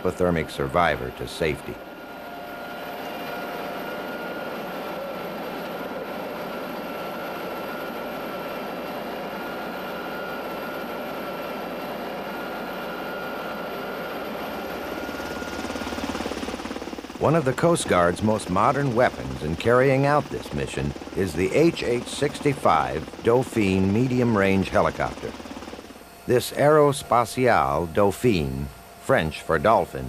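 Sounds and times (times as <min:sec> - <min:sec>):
helicopter running overhead: 0:00.0 - 0:30.0.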